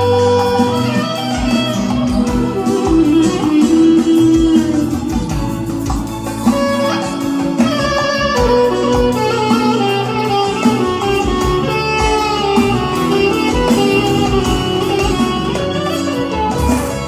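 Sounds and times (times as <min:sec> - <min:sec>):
bass line: 0:00.0 - 0:17.0
guitar playing melody: 0:00.0 - 0:17.0
regular drum beat: 0:00.0 - 0:17.0.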